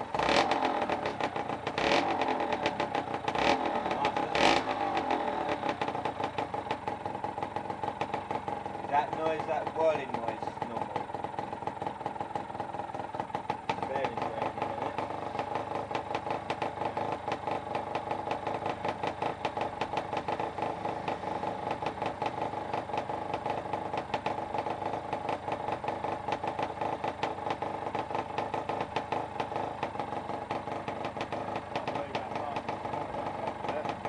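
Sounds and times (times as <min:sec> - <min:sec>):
two-stroke engine idling: 0:00.0 - 0:34.0.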